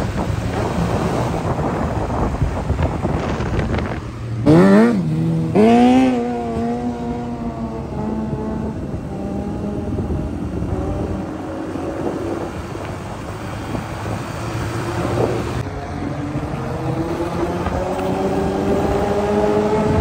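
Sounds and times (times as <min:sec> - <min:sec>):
motorcycle engine revving: 0:00.0 - 0:20.0
wind on microphone: 0:00.0 - 0:20.0.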